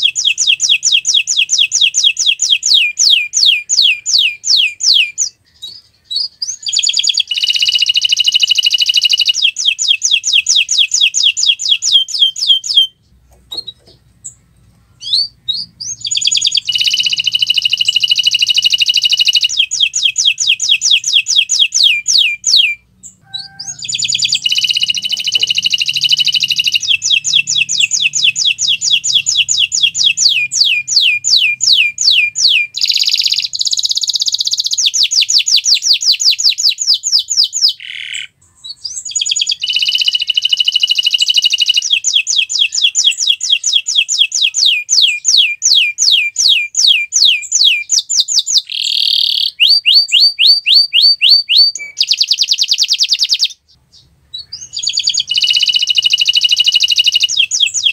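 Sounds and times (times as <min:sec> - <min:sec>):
canary singing rolling trills: 0:00.0 - 0:57.9.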